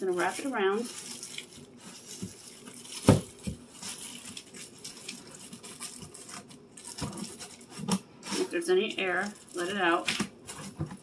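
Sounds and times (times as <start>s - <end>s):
plastic trash bag rustling: 0.0s - 11.0s.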